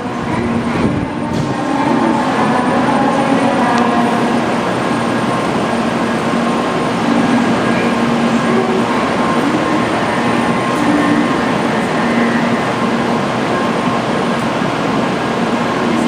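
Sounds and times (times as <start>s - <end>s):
stationary train humming: 0.0s - 16.0s.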